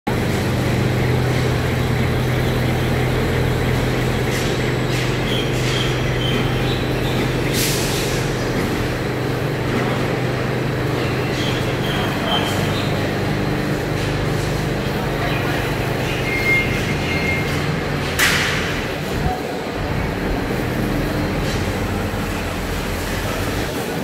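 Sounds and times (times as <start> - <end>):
machinery low drone: 0.1 - 24.0.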